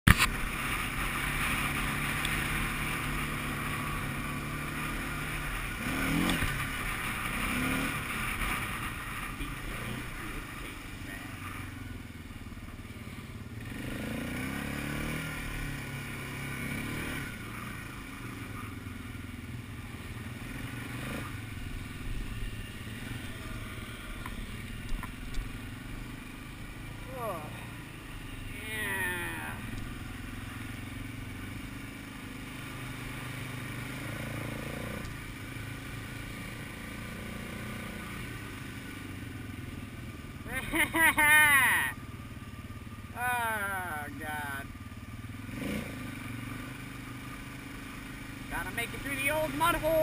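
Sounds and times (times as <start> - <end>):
atv engine running: 0.1 - 50.0.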